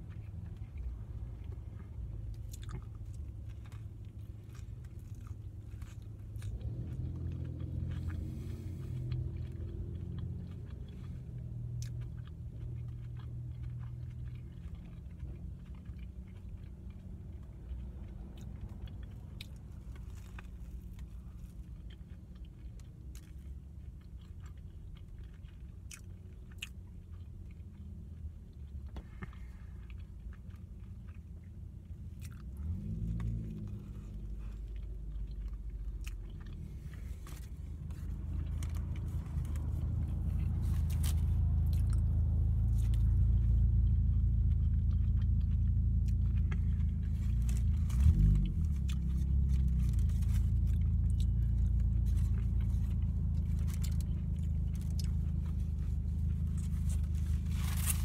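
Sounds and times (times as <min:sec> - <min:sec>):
chewing crunchy bread: 0:00.0 - 0:58.0
steady low hum: 0:00.0 - 0:58.0.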